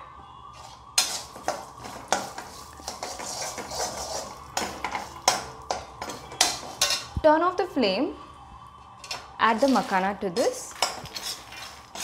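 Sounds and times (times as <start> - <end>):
metal ladle scraping a pan: 0.6 - 7.2, 9.0 - 12.0.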